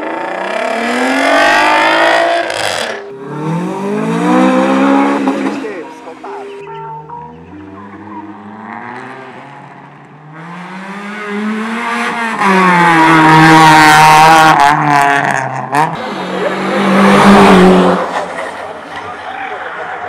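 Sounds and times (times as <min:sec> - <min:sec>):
car engine at full throttle: 0:00.0 - 0:20.0.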